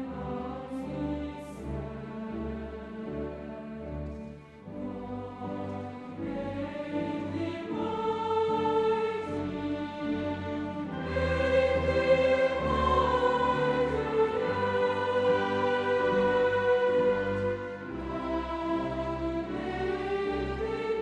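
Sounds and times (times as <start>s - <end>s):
orchestral music with choir: 0.0s - 21.0s.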